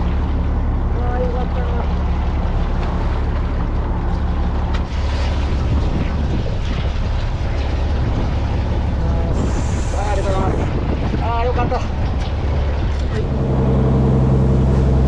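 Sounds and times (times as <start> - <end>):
boat engine humming: 0.0 - 15.0
sea noise: 0.0 - 15.0
wind: 0.0 - 15.0.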